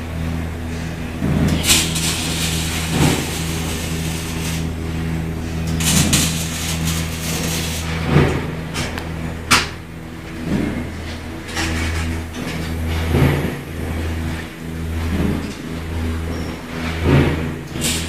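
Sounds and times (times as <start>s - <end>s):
welder electrical hum and fan drone: 0.0s - 18.0s.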